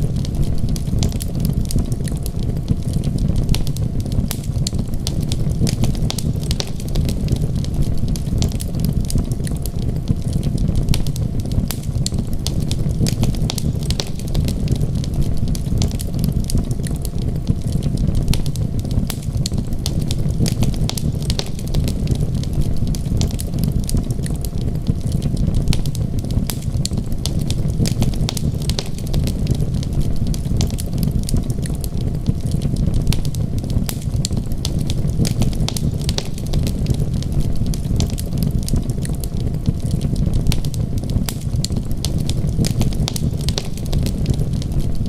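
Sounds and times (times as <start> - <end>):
wood fire crackling in fireplace: 0.0 - 45.0.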